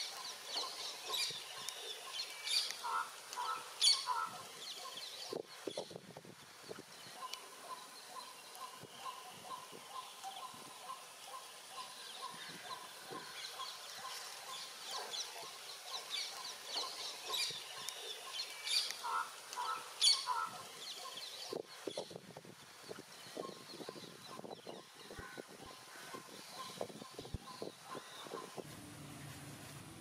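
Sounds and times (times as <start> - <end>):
leaves crackling and rustling: 0.0 - 30.0.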